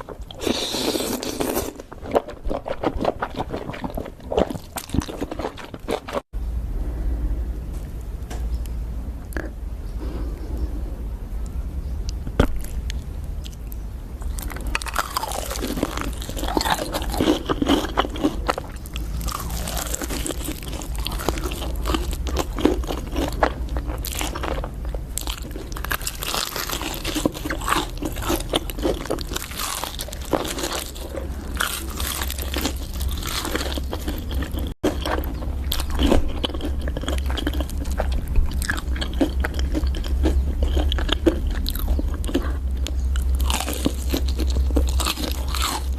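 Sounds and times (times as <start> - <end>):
crunchy food being chewed: 0.0 - 6.3, 12.0 - 45.9
steady low hum: 3.2 - 45.9.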